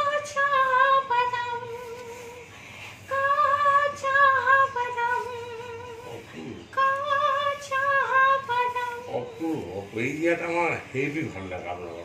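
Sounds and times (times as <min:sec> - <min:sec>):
woman singing unaccompanied: 0:00.0 - 0:09.8.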